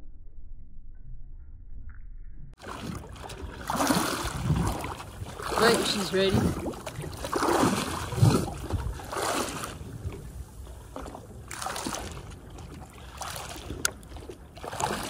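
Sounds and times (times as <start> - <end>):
water splashing against boat: 2.6 - 15.0.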